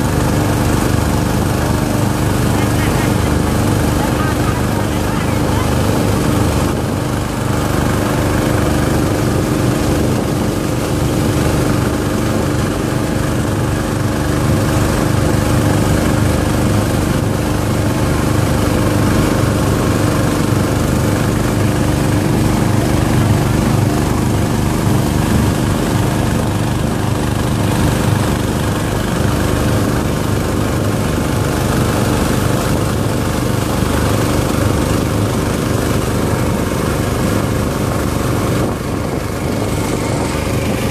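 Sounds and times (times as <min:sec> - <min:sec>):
motorboat engine drone: 0:00.0 - 0:40.9
water rushing along hull: 0:00.0 - 0:40.9.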